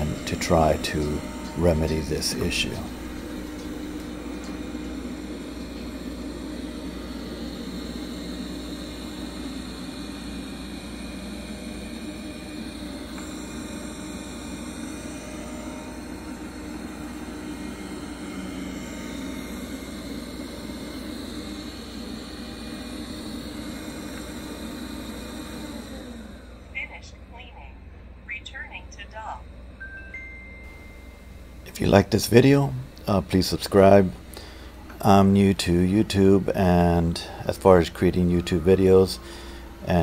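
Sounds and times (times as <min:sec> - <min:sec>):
robot vacuum humming: 0:00.0 - 0:40.0.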